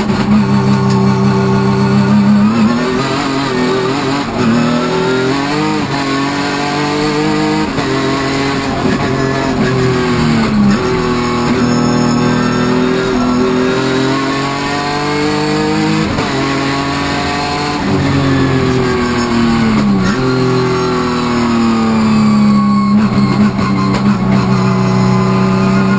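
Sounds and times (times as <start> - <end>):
race car engine revving: 0.0 - 25.9.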